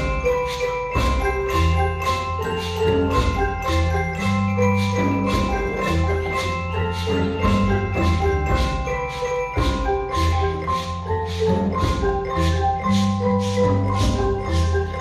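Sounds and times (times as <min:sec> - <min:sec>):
mallet percussion ensemble: 0:00.0 - 0:15.0.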